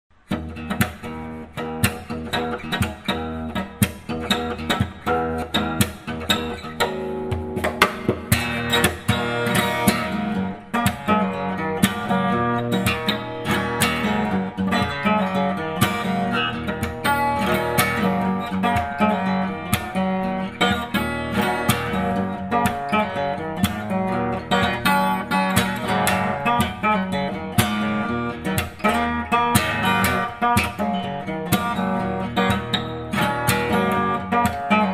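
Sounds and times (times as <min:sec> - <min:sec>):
acoustic guitar picked and strummed: 0:00.1 - 0:34.9.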